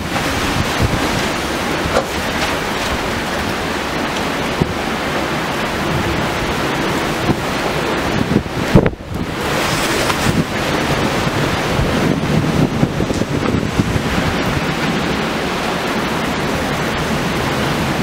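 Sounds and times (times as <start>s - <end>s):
heavy rain: 0.0s - 18.0s
strong storm wind: 0.0s - 18.0s
wind buffeting microphone: 0.0s - 18.0s.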